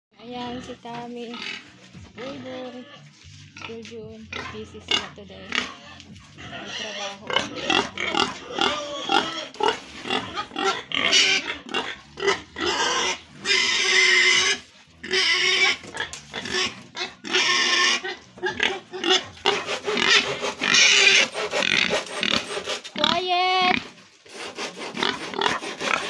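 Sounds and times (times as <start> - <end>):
pigs grunting: 0.2 - 26.0
pigs squealing: 0.3 - 26.0.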